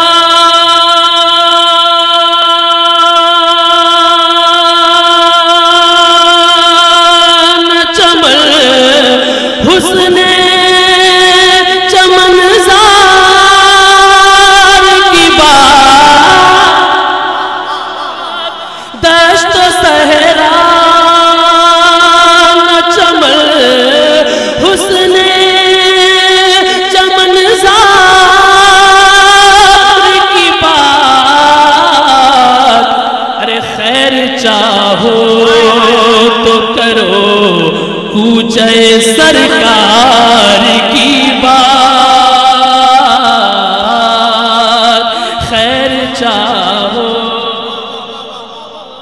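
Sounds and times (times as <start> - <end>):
man singing into a microphone: 0.0 - 49.0.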